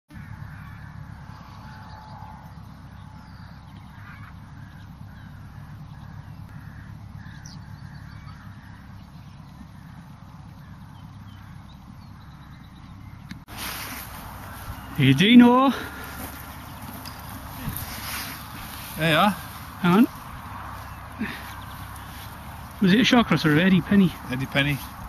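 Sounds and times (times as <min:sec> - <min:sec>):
crows cawing: 0:00.1 - 0:12.6, 0:13.6 - 0:25.0
low outdoor rumble: 0:00.1 - 0:25.0.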